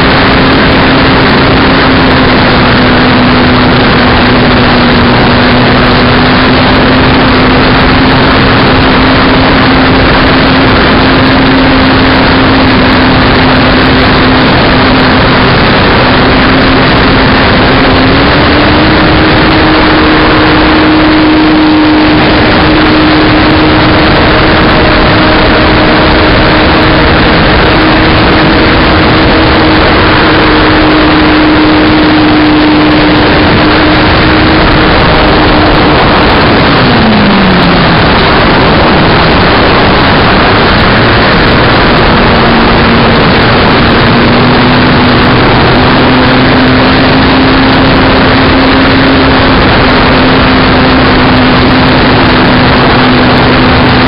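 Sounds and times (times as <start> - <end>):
model aircraft motor drone: 0.0 - 54.0
wind rush on microphone: 0.0 - 54.0.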